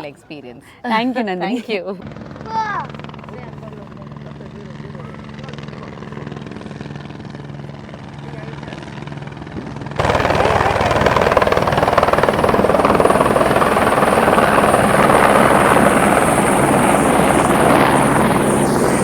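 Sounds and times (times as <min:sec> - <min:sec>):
helicopter rotor beat: 0:01.9 - 0:19.0.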